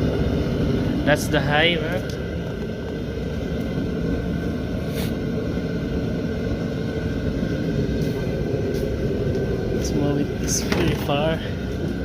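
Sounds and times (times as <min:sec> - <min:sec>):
faint steady whine: 0:00.0 - 0:12.0
propane heater rushing: 0:00.0 - 0:12.0.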